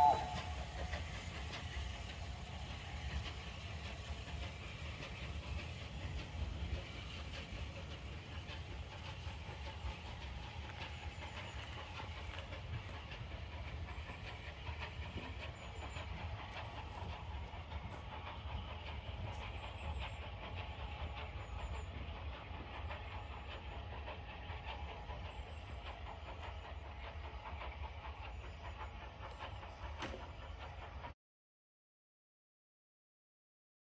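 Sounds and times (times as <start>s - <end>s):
train wheels clicking over rail joints: 0.0s - 31.1s
low train rumble: 0.0s - 31.2s.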